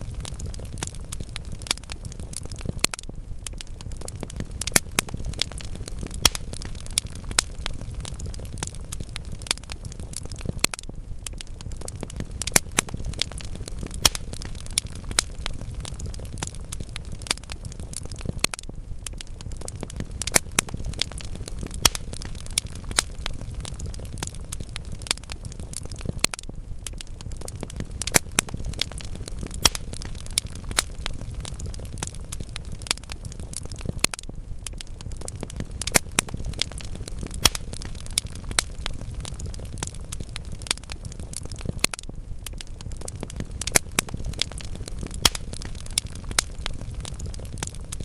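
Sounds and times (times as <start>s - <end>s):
logs crackling and popping: 0.0s - 48.0s
low rush of flames: 0.0s - 48.0s.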